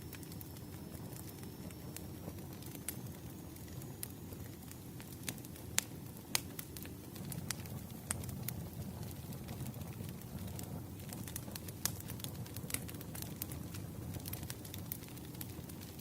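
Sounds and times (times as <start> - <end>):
low rumble of flame: 0.0 - 16.0
wood fire crackling and popping: 0.0 - 16.0.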